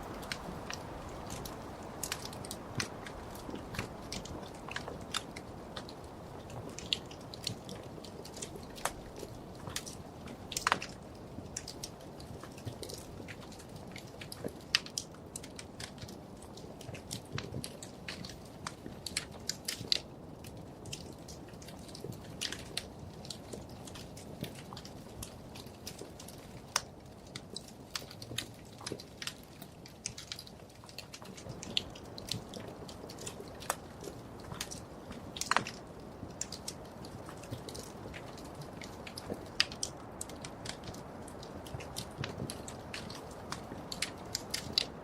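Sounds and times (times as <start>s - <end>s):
rumble of flames: 0.0s - 45.0s
wood fire crackling: 0.0s - 45.0s.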